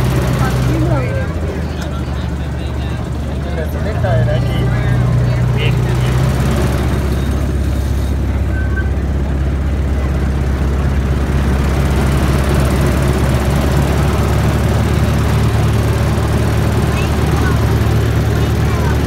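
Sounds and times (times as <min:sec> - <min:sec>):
small train droning on track: 0:00.0 - 0:19.0.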